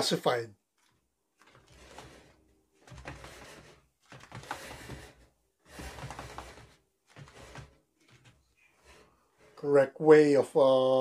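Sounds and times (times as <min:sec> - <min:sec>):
rustling and handling noise: 0:00.6 - 0:09.8.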